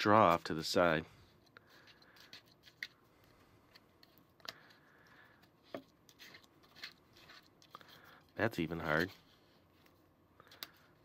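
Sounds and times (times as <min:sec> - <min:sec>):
plastic straw clicking and scraping: 0:01.4 - 0:09.2, 0:09.8 - 0:11.0.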